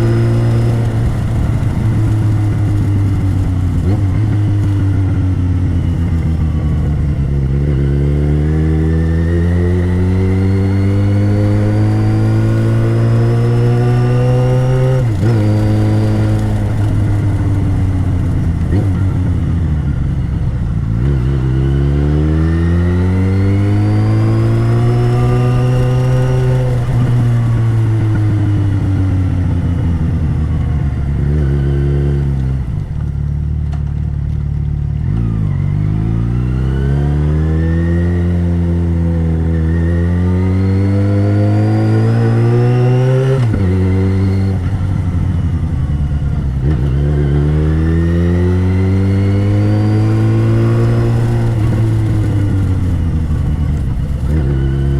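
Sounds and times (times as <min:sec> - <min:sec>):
motorcycle engine revving through gears: 0:00.0 - 0:54.9.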